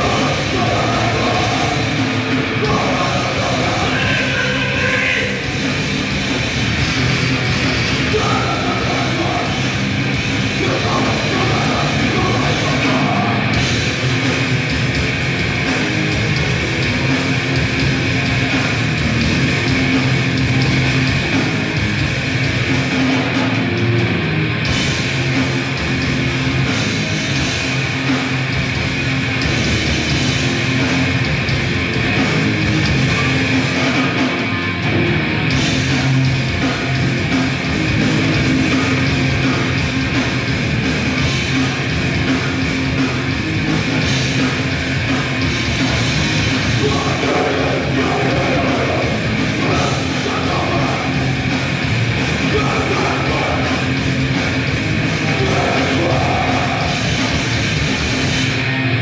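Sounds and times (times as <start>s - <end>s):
distorted guitars and bass: 0.0s - 59.0s
fast dense drumming: 0.0s - 59.0s.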